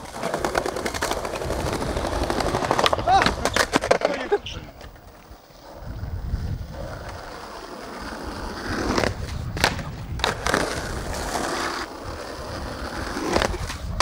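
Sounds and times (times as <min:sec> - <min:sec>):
skateboard clacks: 0:00.0 - 0:05.8, 0:07.0 - 0:14.0
skateboard wheels rolling on asphalt: 0:00.0 - 0:14.0.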